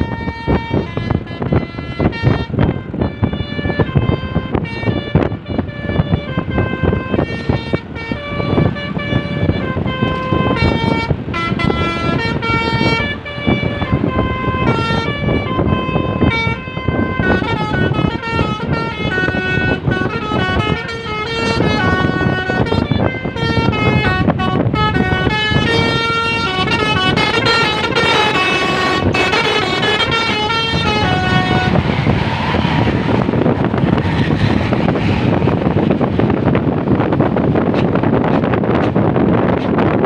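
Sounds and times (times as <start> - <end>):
multi-tone bus horn melody: 0.0 - 40.0
steady rushing noise: 0.0 - 40.0.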